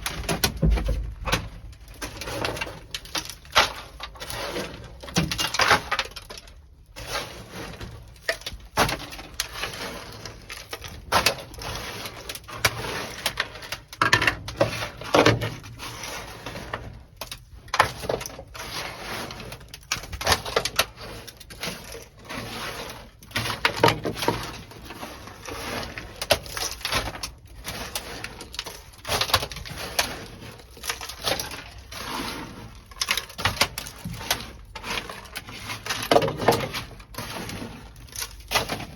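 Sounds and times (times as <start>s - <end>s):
brittle pieces scraping: 0.0s - 38.9s.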